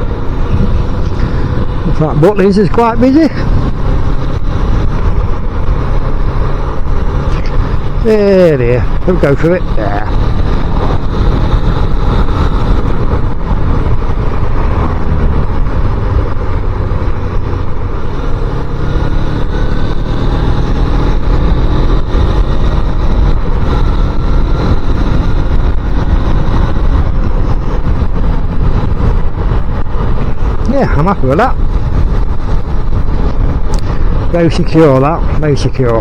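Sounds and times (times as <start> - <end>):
motorcycle engine rumble: 0.0 - 36.0
wind and road noise: 0.0 - 36.0.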